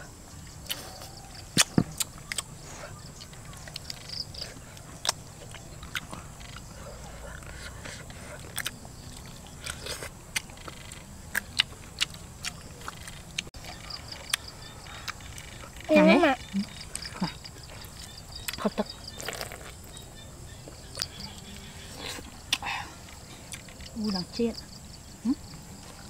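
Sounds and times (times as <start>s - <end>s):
people chewing and crunching: 0.0s - 24.3s.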